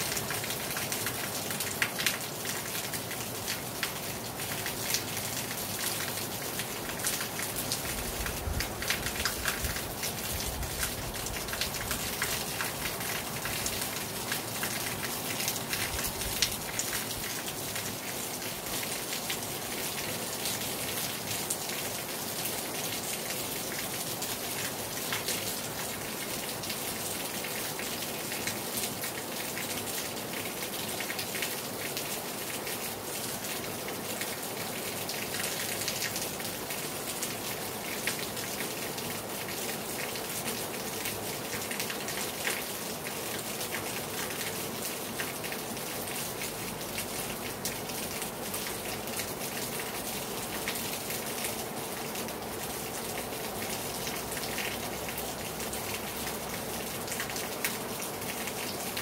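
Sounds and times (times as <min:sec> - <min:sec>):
heavy rain on a terrace: 0:00.0 - 0:59.0.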